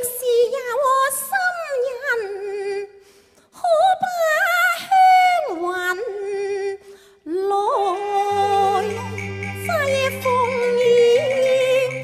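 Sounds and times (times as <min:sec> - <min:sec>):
woman singing with vibrato: 0:00.0 - 0:12.0.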